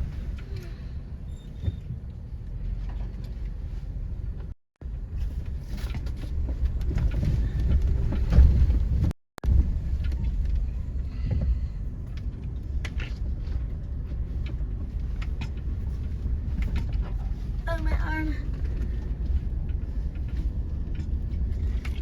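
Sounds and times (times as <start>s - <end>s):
knocks and creaks: 0.0s - 22.0s
vehicle rumble in cabin: 0.0s - 22.0s.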